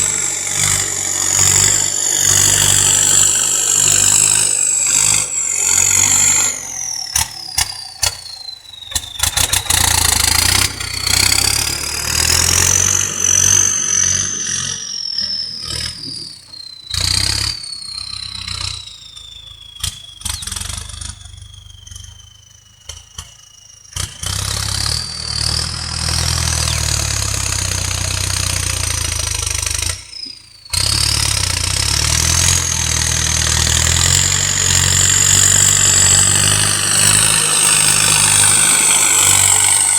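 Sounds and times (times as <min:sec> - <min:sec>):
tractor engine rumbling: 0:00.0 - 0:39.9
turbo whistle: 0:00.0 - 0:39.9.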